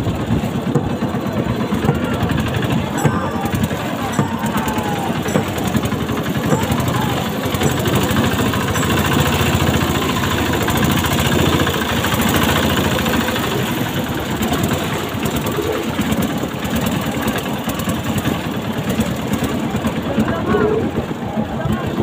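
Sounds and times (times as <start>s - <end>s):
motorboat engine chugging: 0.0s - 22.0s.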